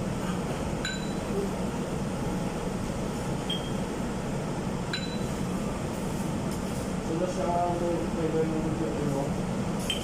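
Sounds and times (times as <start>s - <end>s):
dining room hum: 0.0s - 10.0s.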